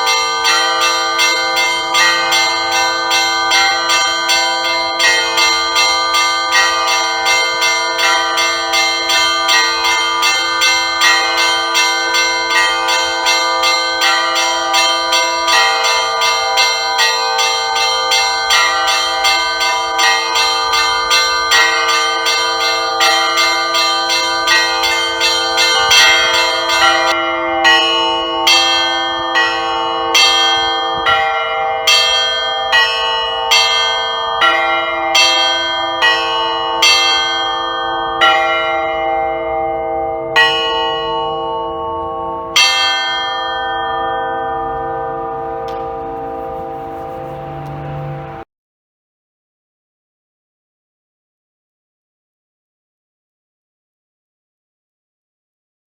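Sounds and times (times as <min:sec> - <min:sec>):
deep church bells ringing: 0:00.0 - 0:48.5
small church bells ringing rapidly: 0:00.0 - 0:48.5.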